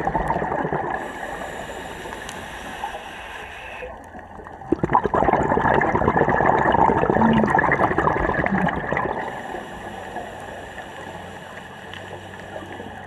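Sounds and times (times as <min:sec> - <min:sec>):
underwater bubbles rushing: 0:00.0 - 0:03.2, 0:03.8 - 0:13.0.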